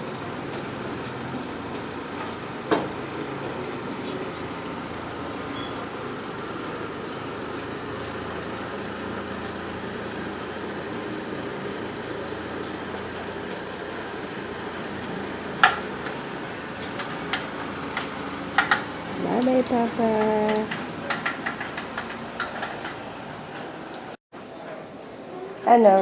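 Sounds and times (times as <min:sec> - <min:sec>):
car engine idling: 0:00.0 - 0:23.4.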